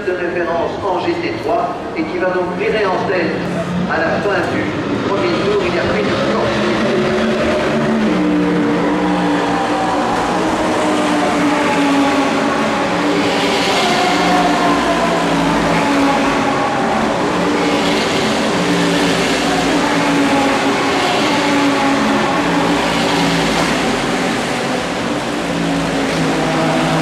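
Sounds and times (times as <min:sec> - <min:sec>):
race cars passing at speed: 0:00.0 - 0:27.0.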